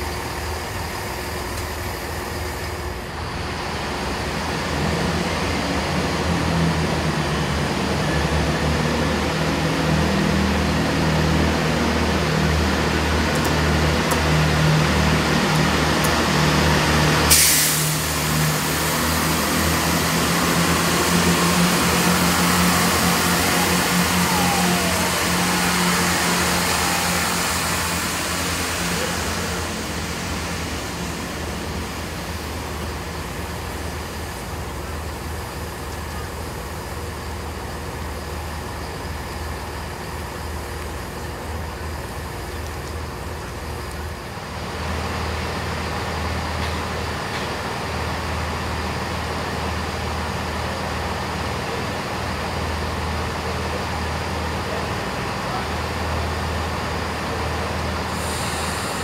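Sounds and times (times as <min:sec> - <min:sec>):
diesel train engine humming: 0:00.0 - 0:59.0.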